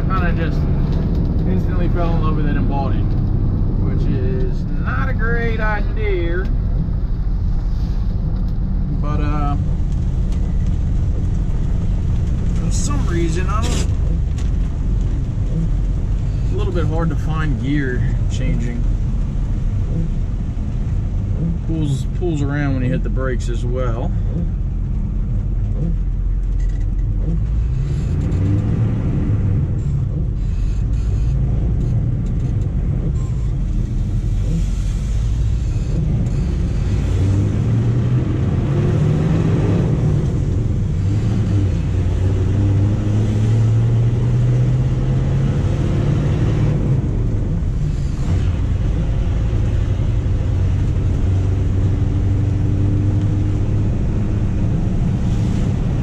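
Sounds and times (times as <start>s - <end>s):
diesel truck engine: 0.0s - 56.0s
road noise: 0.0s - 56.0s.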